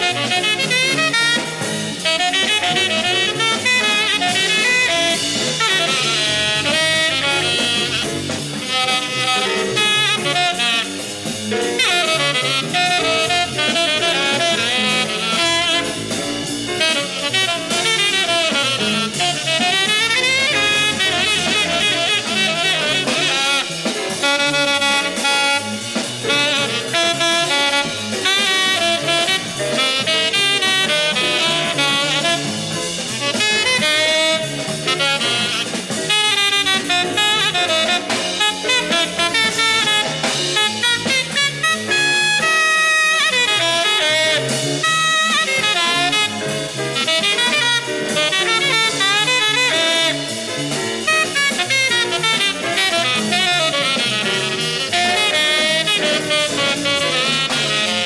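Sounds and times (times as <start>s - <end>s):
bebop jazz band: 0.0s - 58.0s
saxophone lead line: 0.0s - 58.0s.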